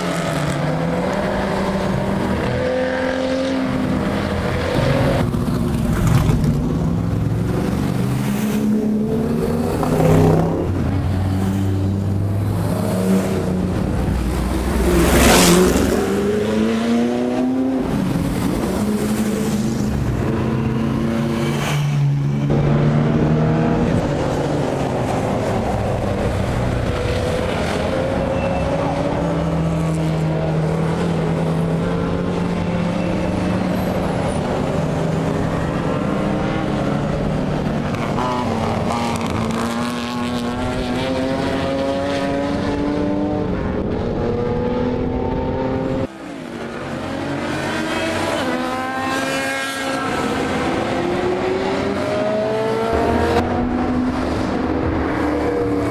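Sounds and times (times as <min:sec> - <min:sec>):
racing car engines accelerating: 0:00.0 - 0:55.9.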